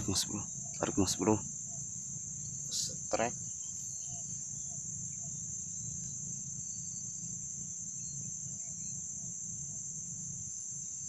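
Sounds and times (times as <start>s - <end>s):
high-pitched insect chirring: 0.0s - 11.0s.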